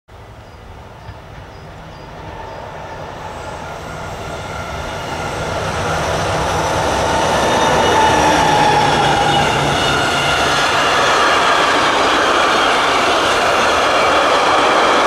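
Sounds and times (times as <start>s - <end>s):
locomotive hum: 0.2s - 15.0s
train wagons rolling on rails: 0.6s - 15.0s.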